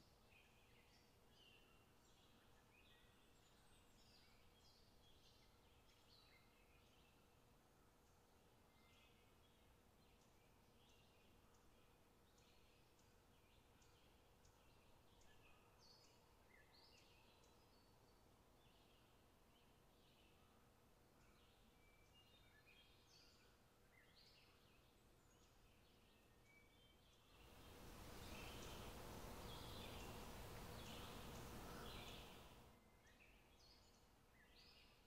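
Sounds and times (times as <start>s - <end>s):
small birds chirping: 0.0s - 7.3s, 8.1s - 35.0s.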